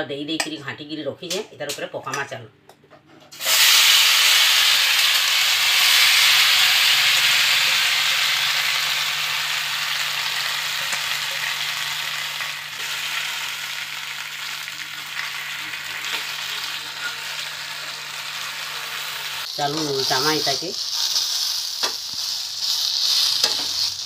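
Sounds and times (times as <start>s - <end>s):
food sizzling in hot oil: 3.4s - 24.0s.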